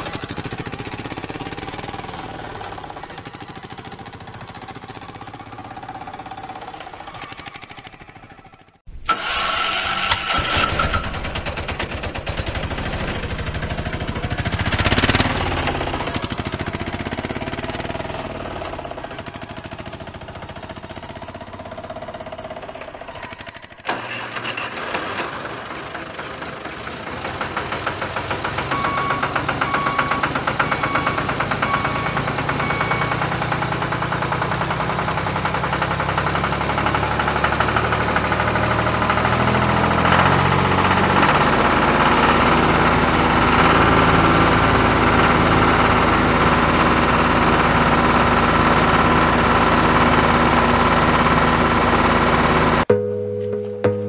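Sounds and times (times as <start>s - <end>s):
engine running with knocking beat: 0.0s - 8.8s, 10.4s - 23.9s, 24.8s - 53.0s.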